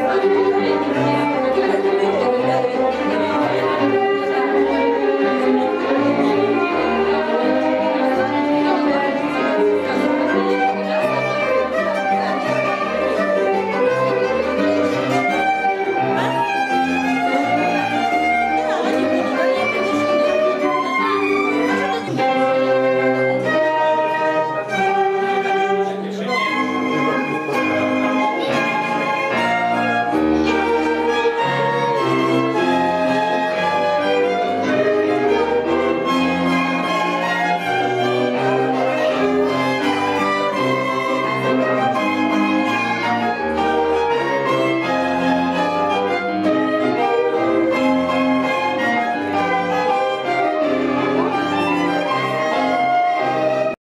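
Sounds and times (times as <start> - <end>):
string quintet playing: 0.0 - 53.8.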